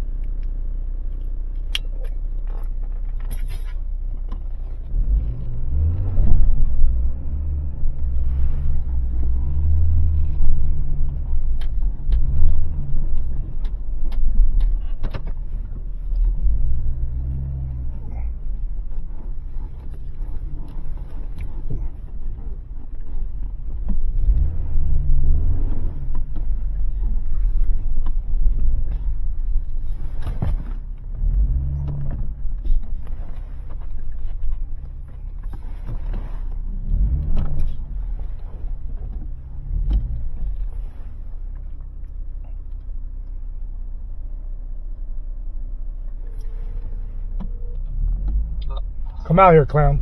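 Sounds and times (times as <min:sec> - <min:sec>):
vehicle engine revving: 0:04.6 - 0:42.8, 0:45.8 - 0:50.0.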